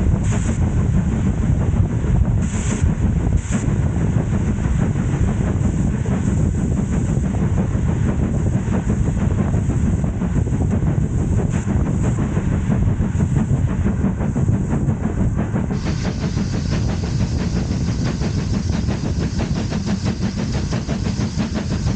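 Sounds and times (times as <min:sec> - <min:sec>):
train rumbling along track: 0:00.0 - 0:21.9.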